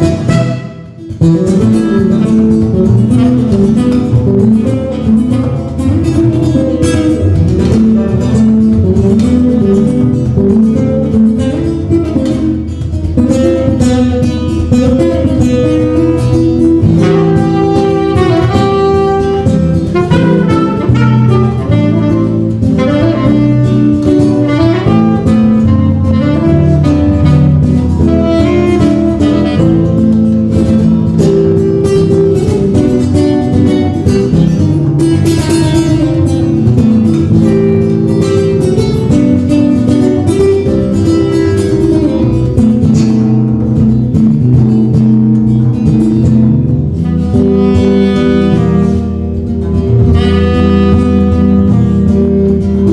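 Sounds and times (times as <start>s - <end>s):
acoustic ensemble playing: 0.0s - 52.9s
plucked acoustic guitar: 0.0s - 52.9s.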